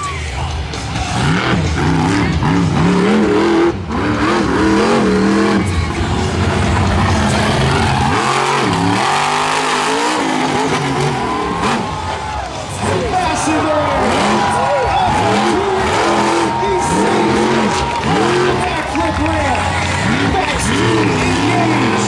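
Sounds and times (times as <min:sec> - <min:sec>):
truck engine revving loud: 0:00.1 - 0:22.0.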